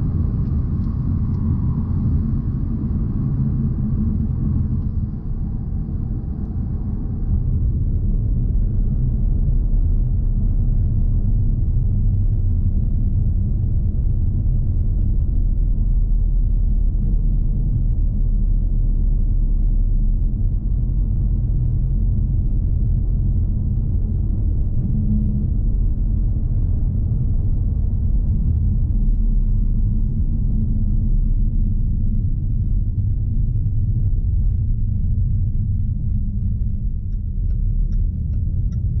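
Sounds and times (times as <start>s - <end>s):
car cabin engine rumble: 0.0s - 39.0s.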